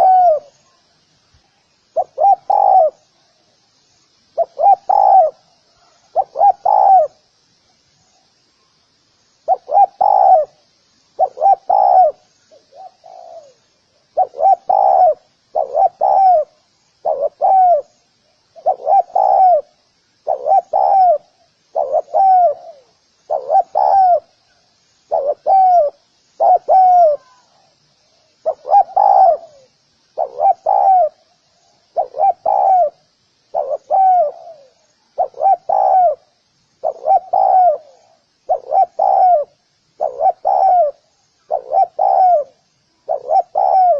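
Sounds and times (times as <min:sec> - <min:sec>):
dove cooing: 0:00.0 - 0:00.5, 0:02.0 - 0:03.0, 0:04.4 - 0:07.2, 0:09.5 - 0:10.6, 0:11.2 - 0:17.9, 0:18.6 - 0:27.7, 0:28.4 - 0:31.3, 0:31.9 - 0:43.9.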